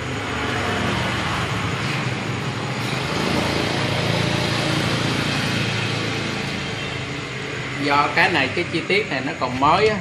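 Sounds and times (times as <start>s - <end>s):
engine running with hiss: 0.0s - 9.7s.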